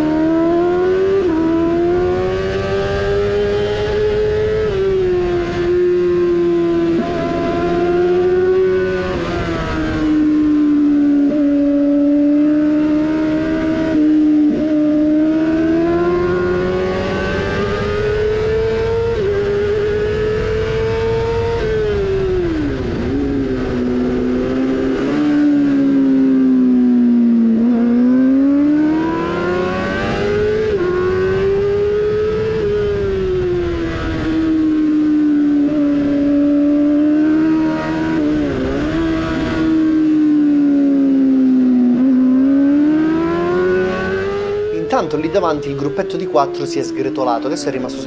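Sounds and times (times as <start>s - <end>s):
motorcycle engine racing: 0.0s - 48.0s.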